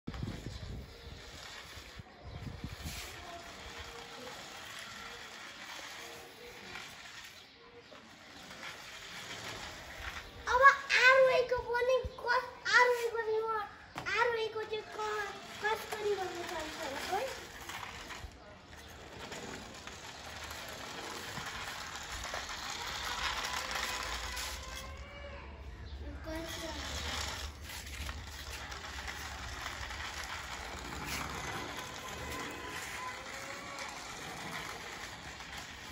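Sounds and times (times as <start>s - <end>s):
toy electric motor whirring: 0.1s - 11.9s, 14.1s - 25.4s, 26.0s - 35.9s.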